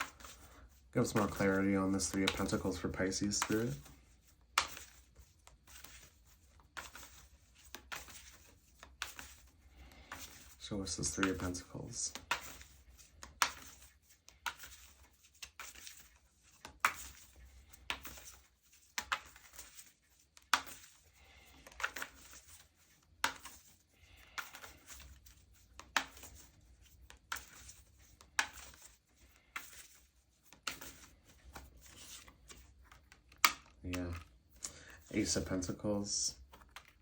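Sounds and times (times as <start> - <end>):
cards being shuffled: 0.0 - 37.0.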